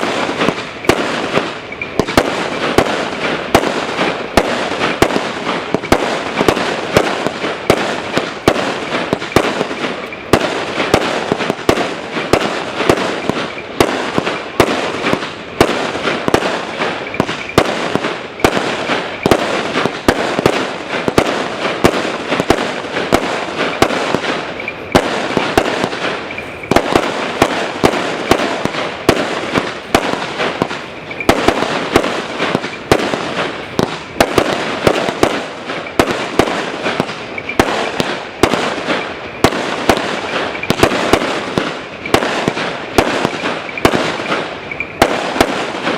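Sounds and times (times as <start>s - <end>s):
fireworks bangs: 0.0s - 45.9s
fireworks crackle: 0.0s - 45.9s.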